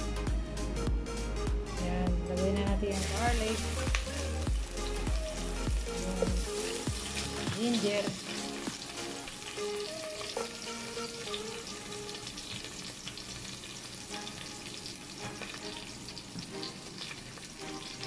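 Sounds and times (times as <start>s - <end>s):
ginger and garlic sizzling in oil: 2.4s - 18.0s.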